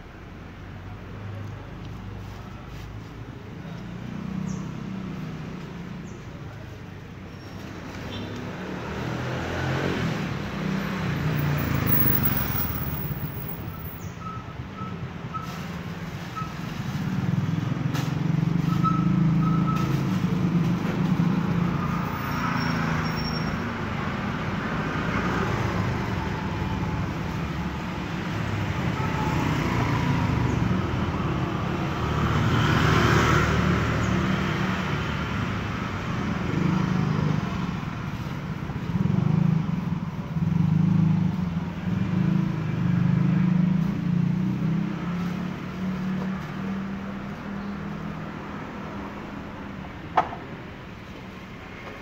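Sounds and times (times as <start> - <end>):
motorbike engines passing: 0.2 - 52.0.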